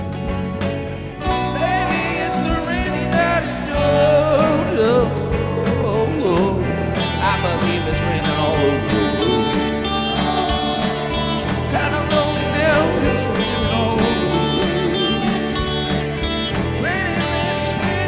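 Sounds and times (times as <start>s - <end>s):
bending lead guitar line: 0.0s - 18.0s
country blues guitars: 0.0s - 18.0s
steady drum beat: 0.0s - 18.0s.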